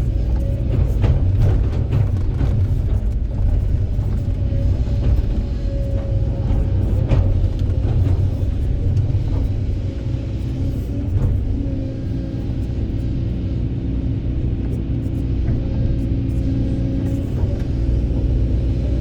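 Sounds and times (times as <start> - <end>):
excavator engine rumbling: 0.0 - 19.0.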